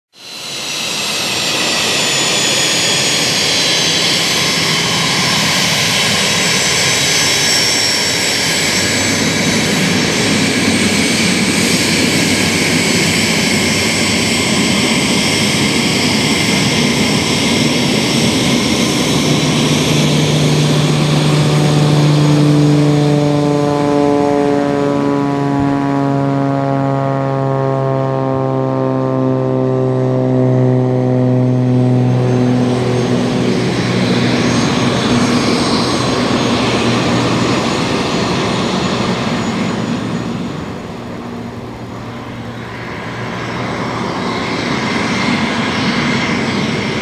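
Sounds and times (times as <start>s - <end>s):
propeller engine running: 0.1s - 47.0s
jet engines whining: 0.2s - 47.0s
steady low drone: 0.2s - 47.0s.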